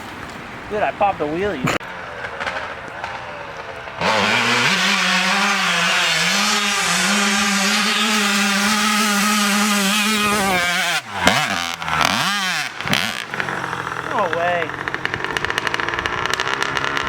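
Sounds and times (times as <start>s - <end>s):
dirt bike engine revving: 1.6s - 17.0s.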